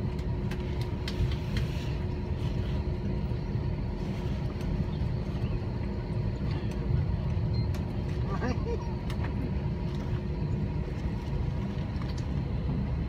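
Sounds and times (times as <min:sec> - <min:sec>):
airplane cabin rumble while taxiing: 0:00.0 - 0:13.0
faint constant hum: 0:00.0 - 0:13.0.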